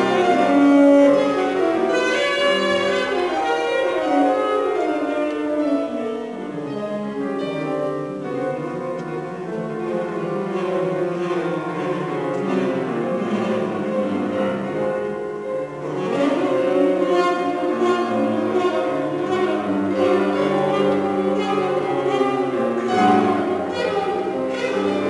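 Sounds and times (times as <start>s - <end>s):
cello: 0.0s - 25.0s
piano: 0.0s - 25.0s
violin: 0.0s - 25.0s.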